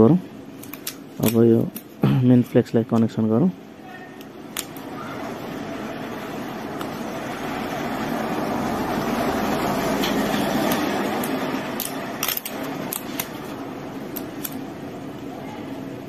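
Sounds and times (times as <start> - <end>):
steady rumbling background noise: 0.0 - 16.0.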